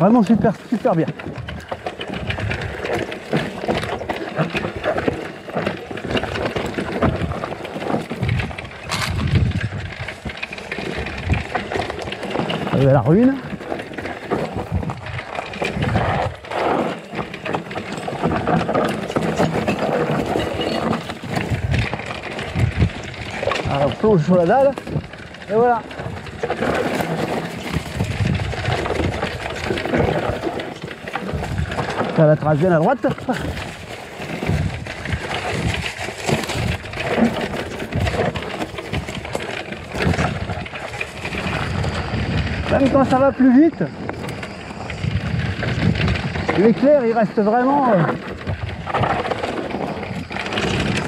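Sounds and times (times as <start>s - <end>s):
bike clacking and rattling: 0.0s - 51.0s
tyres crunching over rock: 0.0s - 51.0s.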